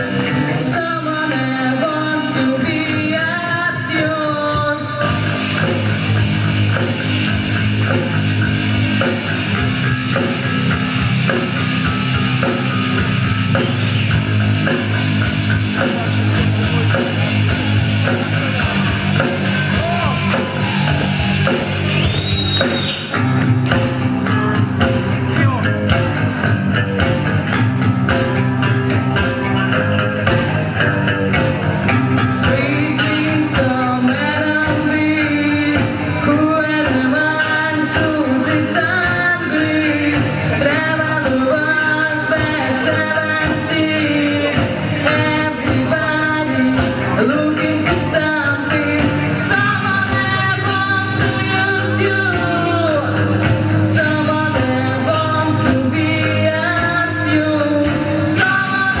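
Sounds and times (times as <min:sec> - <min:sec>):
live rock band with singing: 0:00.0 - 0:59.0.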